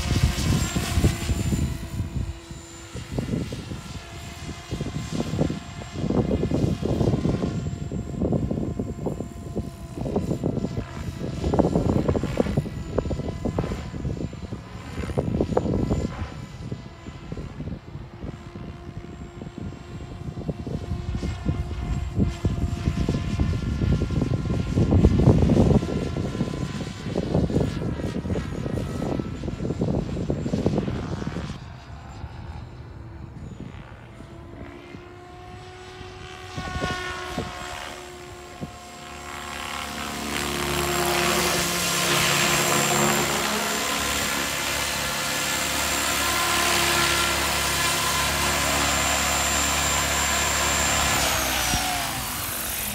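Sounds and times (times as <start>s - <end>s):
rc helicopter rotor and motor whine: 0.0s - 52.9s.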